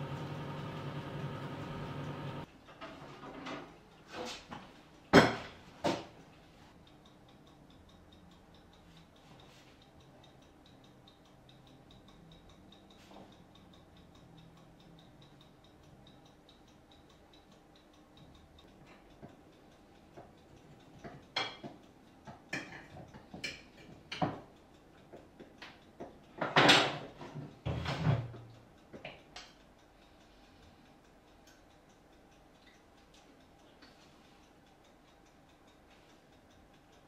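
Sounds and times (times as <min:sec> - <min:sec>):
clock ticking: 0:00.0 - 0:02.6, 0:03.7 - 0:37.0.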